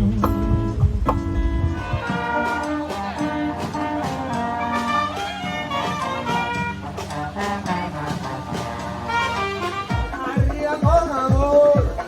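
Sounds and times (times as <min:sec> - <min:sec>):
brass band playing upbeat tune: 0:00.0 - 0:12.0.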